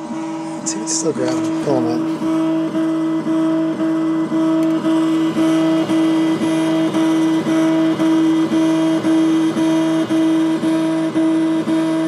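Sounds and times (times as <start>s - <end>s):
stepper motor humming: 0.0s - 12.0s.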